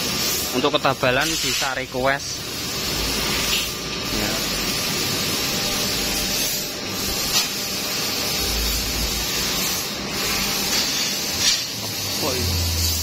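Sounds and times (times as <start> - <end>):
laser cutting machine hissing: 0.0 - 13.0.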